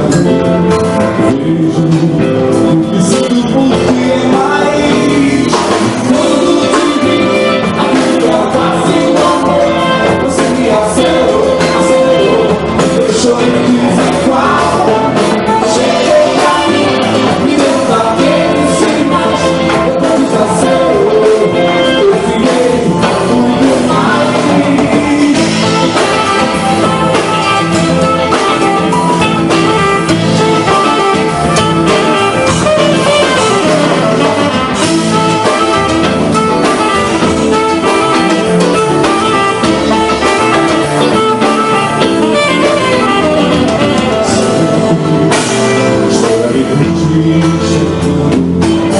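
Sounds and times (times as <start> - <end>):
guitar: 0.0 - 48.9
live band music: 0.0 - 48.9
person singing: 0.0 - 48.9.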